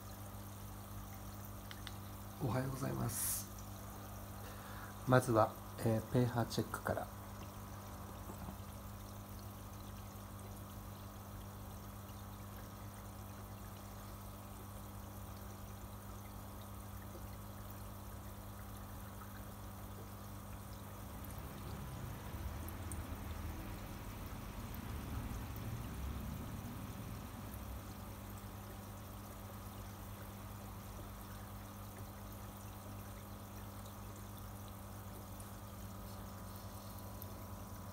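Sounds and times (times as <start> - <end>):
low steady hum: 0.0 - 37.9
water trickling and splashing: 0.0 - 37.9.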